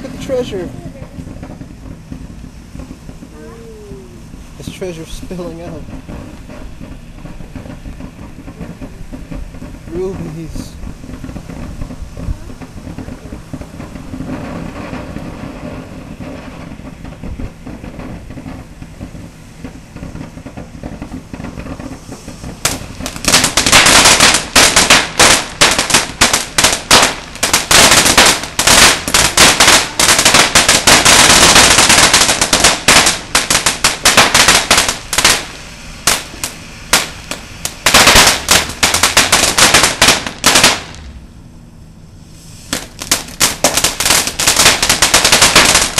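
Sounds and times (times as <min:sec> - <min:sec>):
firework crackling pops: 0:00.0 - 0:45.9
firework fountain hissing: 0:00.0 - 0:45.9.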